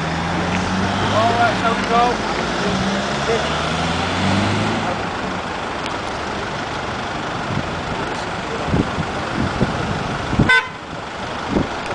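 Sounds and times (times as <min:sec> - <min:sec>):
vehicles driving past: 0:00.0 - 0:11.9.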